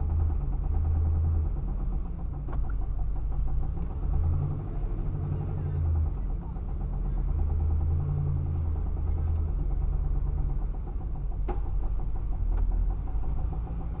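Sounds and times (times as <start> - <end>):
car engine rumbling: 0.0 - 14.0
fast engine ticking: 0.0 - 14.0.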